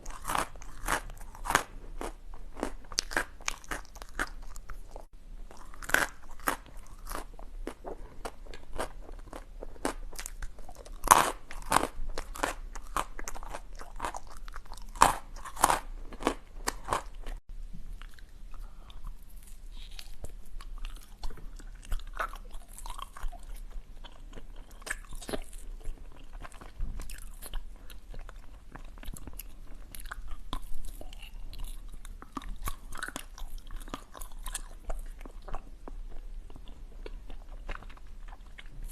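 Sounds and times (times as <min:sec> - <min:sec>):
chewing: 0:00.0 - 0:17.4, 0:18.0 - 0:38.9.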